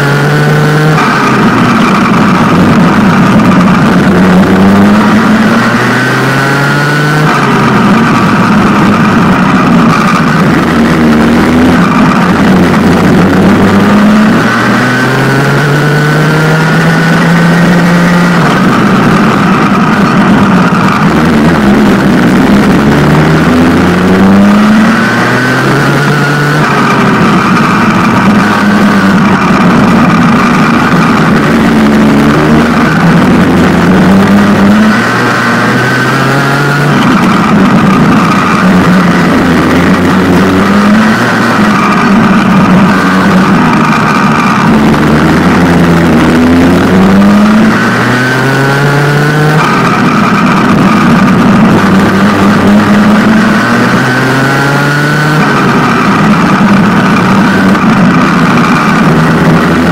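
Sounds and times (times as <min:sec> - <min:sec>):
kart engine accelerating: 0:00.0 - 0:59.9.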